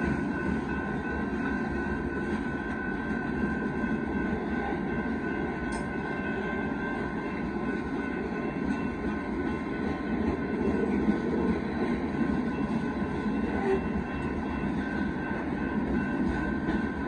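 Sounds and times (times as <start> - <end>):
freight cars rumbling on rails: 0.0 - 17.0.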